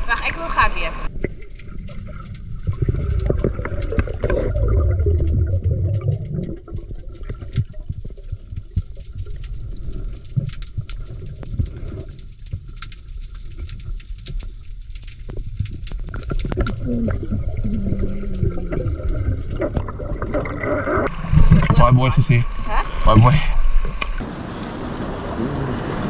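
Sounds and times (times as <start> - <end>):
muffled underwater rushing water: 0.0 - 26.0
underwater clicks and crackles: 0.1 - 24.2.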